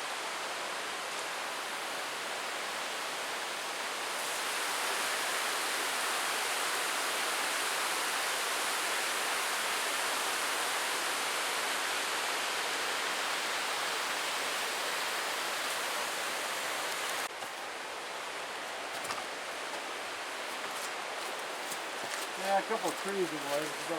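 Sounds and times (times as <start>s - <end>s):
rushing stream water: 0.0s - 23.9s.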